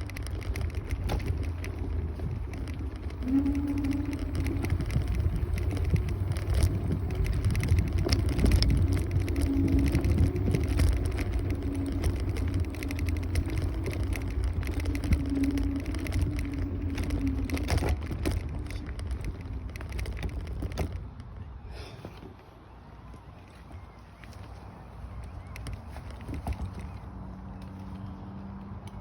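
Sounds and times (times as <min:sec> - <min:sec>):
small rattles and clicks: 0:00.0 - 0:21.5, 0:24.3 - 0:28.1
electric scooter rumble and hum: 0:00.0 - 0:29.0.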